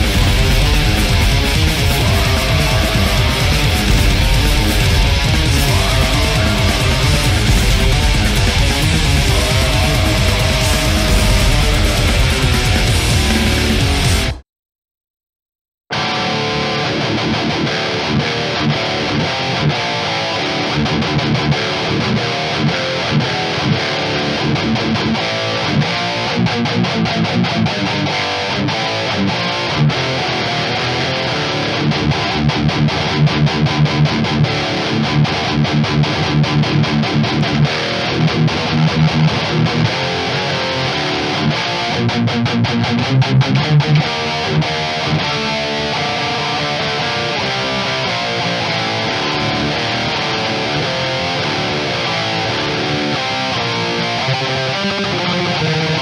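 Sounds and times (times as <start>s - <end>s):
distorted electric guitar riffing: 0.0s - 14.4s, 15.9s - 56.0s.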